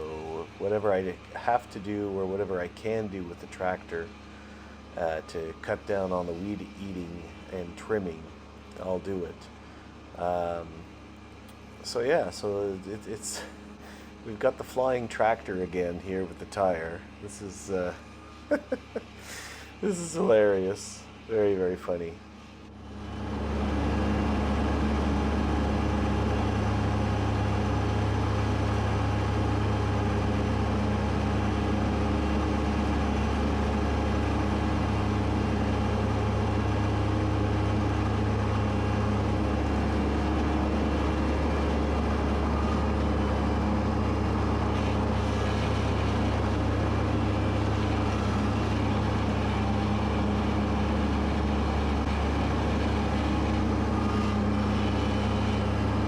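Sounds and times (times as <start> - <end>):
tractor diesel engine running: 0.0 - 56.0
mower cutting grass: 8.8 - 10.8, 11.4 - 22.1, 22.7 - 56.0.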